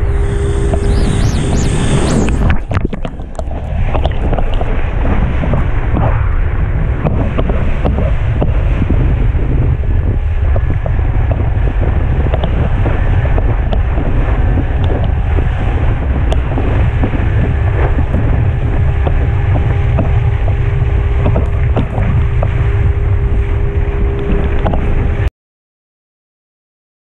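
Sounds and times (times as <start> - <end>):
steady hum: 0.0 - 25.3
wind buffeting microphone: 0.0 - 25.3
rushing water: 2.2 - 25.3.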